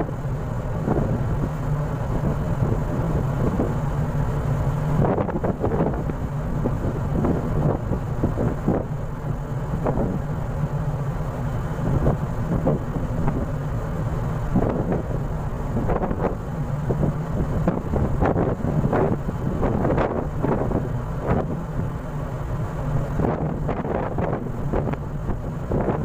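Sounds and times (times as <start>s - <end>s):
wind buffeting the microphone: 0.0s - 10.4s, 11.6s - 26.0s
rush of ship's wake: 0.0s - 26.0s
ship low rumble: 0.0s - 26.0s.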